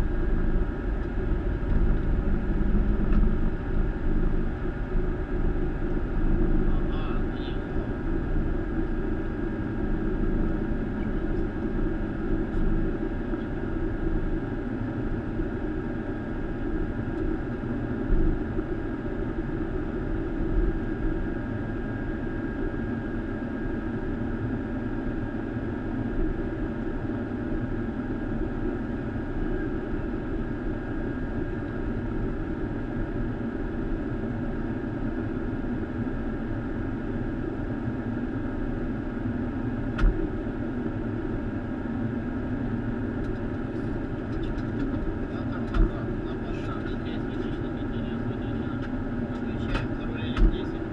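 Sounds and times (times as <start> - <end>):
jet engines idling: 0.0 - 50.9.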